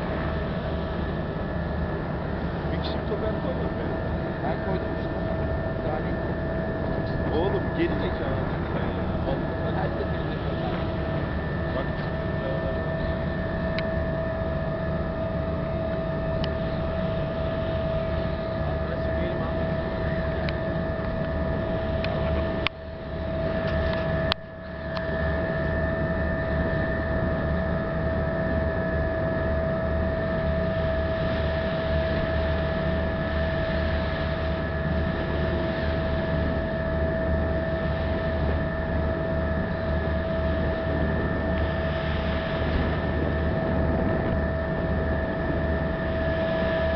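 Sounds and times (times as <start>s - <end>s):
ferry engines droning: 0.0s - 46.9s.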